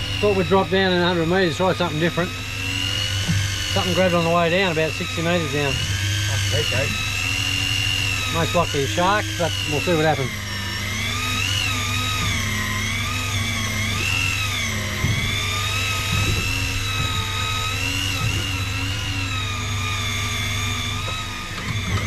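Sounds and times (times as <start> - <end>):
electric reel motor whining: 0.0 - 22.0
low hum: 0.0 - 22.0.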